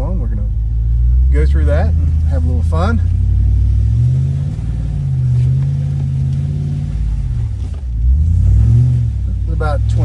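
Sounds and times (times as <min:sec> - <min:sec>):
truck engine pulling at low revs: 0:00.0 - 0:10.0.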